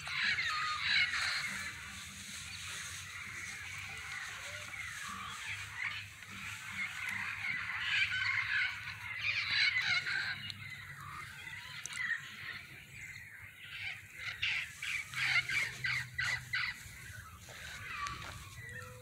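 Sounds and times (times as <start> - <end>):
parrots calling: 0.0 - 12.8, 13.4 - 19.0.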